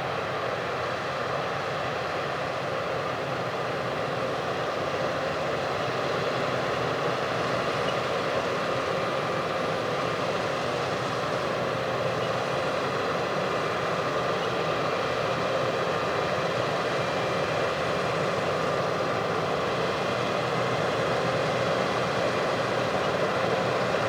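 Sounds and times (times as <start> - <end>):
farm machinery engine droning: 3.8 - 24.0.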